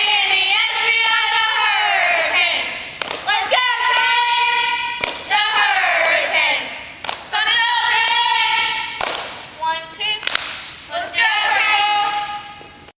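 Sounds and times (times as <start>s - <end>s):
cheerleaders chanting in unison: 0.0s - 12.6s.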